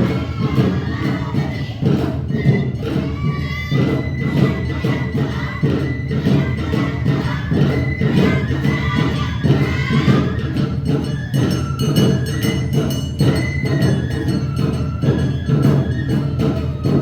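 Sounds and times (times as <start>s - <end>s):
drums: 0.0s - 17.0s
high flute melody: 0.0s - 17.0s
shamisen: 0.0s - 17.0s.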